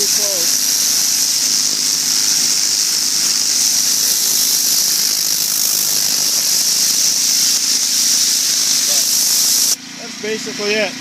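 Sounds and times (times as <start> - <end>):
machine humming: 0.0 - 11.0
pressure washer water jet hissing: 0.0 - 11.0.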